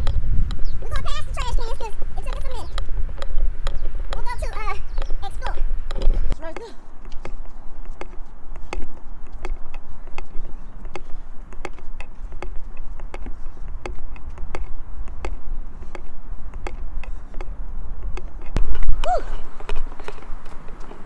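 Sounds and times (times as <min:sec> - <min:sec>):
jogging footsteps on pavement: 0:00.0 - 0:21.0
low rumble of movement noise: 0:00.0 - 0:21.0.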